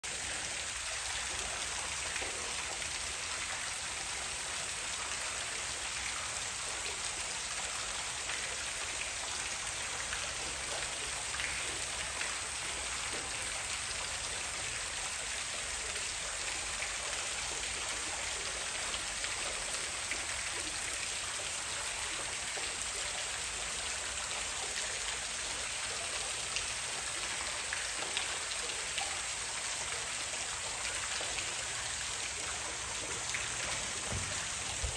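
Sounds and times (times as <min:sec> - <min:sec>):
water falling into a pool: 0:00.0 - 0:34.9.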